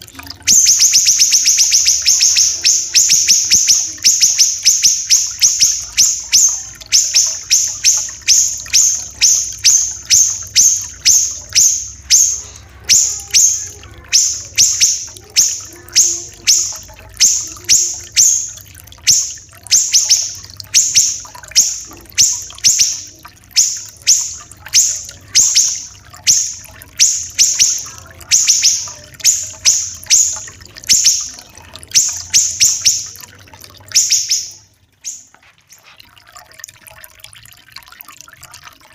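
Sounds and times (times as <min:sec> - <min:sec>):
songbird calling harsh high notes: 0:00.3 - 0:35.3.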